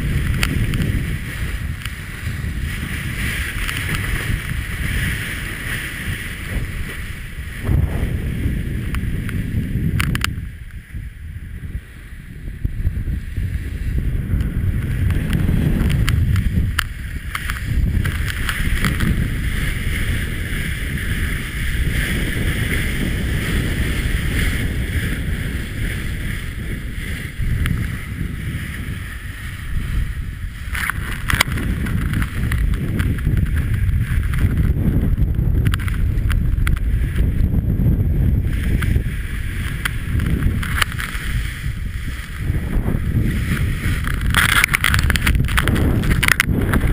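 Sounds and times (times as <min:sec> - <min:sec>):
water rushing along a hull: 0:00.0 - 0:46.9
wind buffeting microphone: 0:00.0 - 0:46.9.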